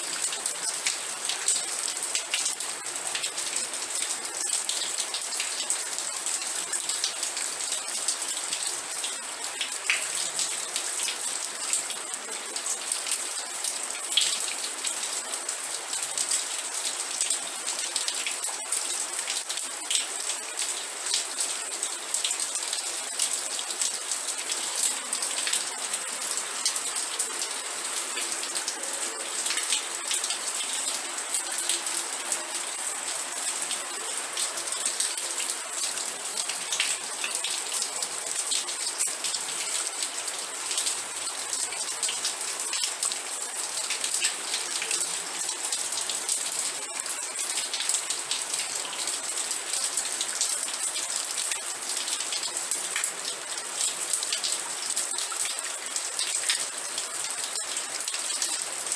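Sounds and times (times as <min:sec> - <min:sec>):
raindrops pattering on a surface: 0:00.0 - 0:58.9.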